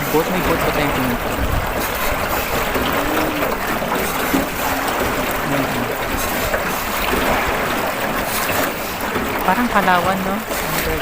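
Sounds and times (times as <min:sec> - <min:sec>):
water washing along boat hull: 0:00.0 - 0:11.0.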